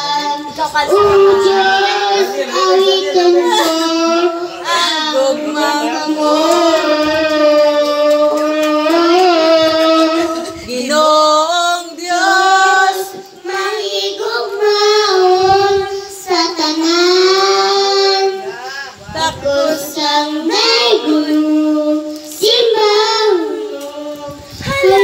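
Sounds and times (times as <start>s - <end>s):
girl singing into a microphone: 0.0s - 25.0s.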